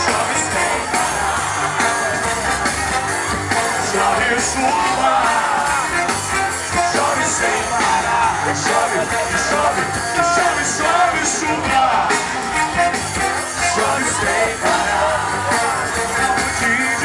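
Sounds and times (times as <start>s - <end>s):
pop-rock band playing live: 0.0s - 17.0s.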